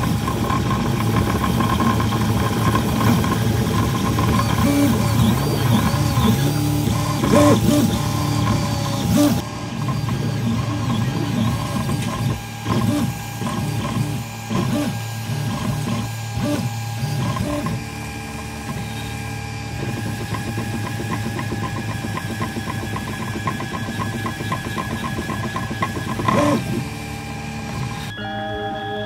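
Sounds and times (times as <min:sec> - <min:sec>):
rapid regular ticks: 0:00.0 - 0:17.8, 0:19.8 - 0:27.0
fan hum: 0:00.0 - 0:29.0
stepper motors whining: 0:00.0 - 0:29.0.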